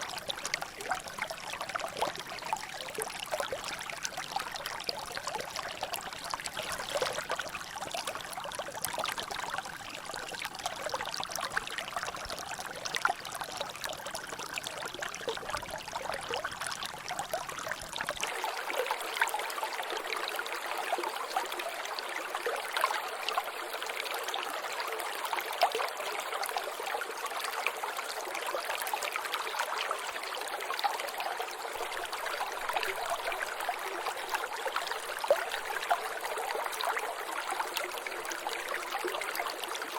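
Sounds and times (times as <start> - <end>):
water drips and splashes: 0.0 - 39.9
water trickling: 0.0 - 39.9.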